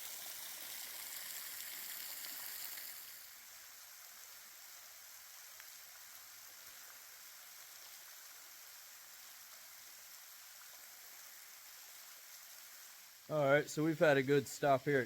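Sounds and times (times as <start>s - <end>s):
faint hiss of falling water: 0.0s - 15.0s.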